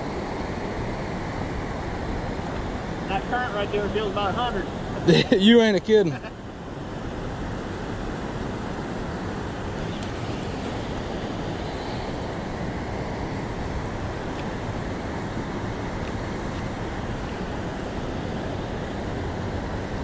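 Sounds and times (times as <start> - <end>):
rushing river current: 0.0 - 20.0.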